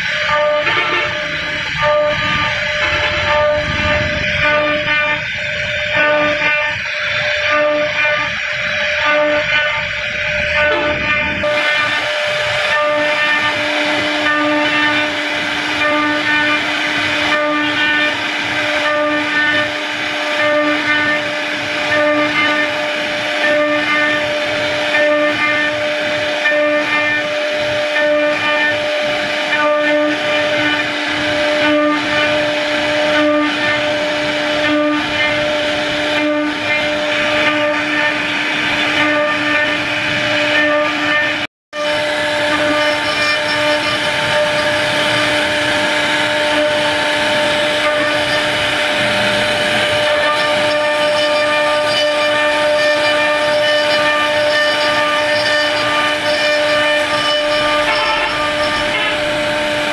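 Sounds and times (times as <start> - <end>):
bit cutting through wood: 0.0 - 59.9
router spindle high whine: 0.0 - 59.9.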